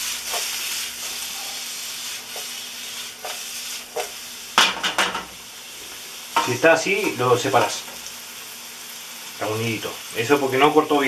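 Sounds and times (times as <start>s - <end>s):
peppers sizzling in oil: 0.0s - 11.0s.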